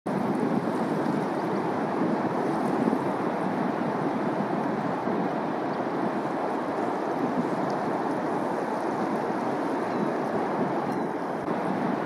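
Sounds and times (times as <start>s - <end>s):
surf washing onto sandy beach: 0.1s - 12.0s.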